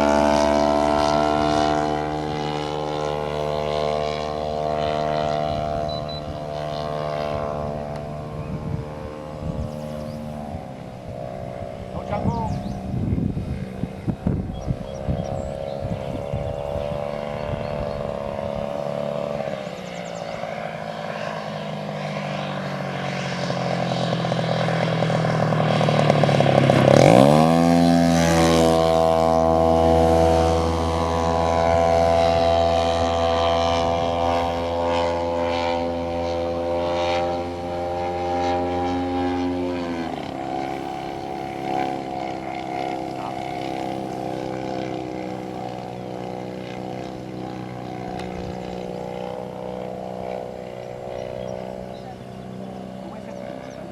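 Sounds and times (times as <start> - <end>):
model airplane engine and propeller: 0.0 - 53.9.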